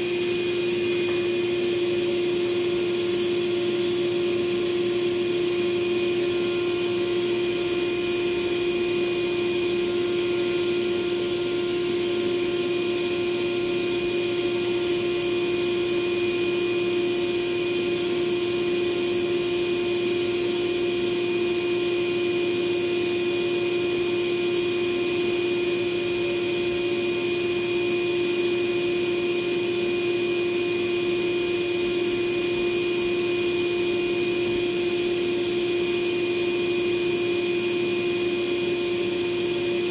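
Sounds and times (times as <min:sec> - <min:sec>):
shop vacuum motor whining: 0:00.0 - 0:39.9.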